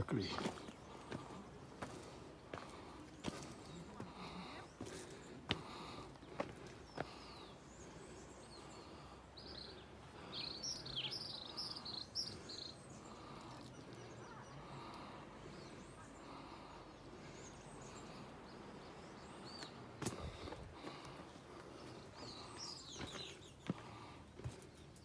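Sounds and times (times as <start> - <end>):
faint outdoor background noise: 0.0 - 25.0
bird chirping: 0.1 - 19.9, 21.0 - 25.0.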